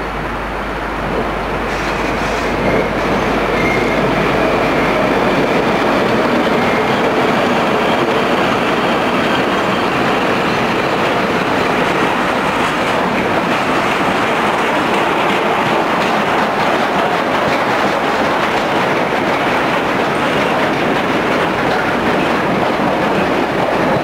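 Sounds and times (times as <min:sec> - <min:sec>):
freight train wheels on rails: 0:00.0 - 0:24.0.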